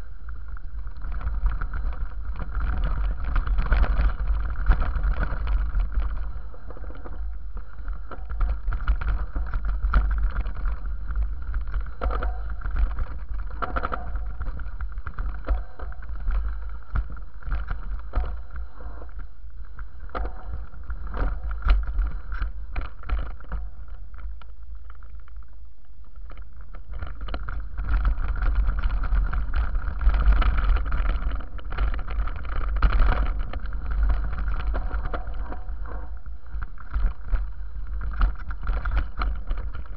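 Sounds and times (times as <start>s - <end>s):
wind buffeting microphone: 0.0s - 24.2s, 26.7s - 39.9s
bike rattling over bumps: 0.0s - 25.4s, 26.1s - 39.9s.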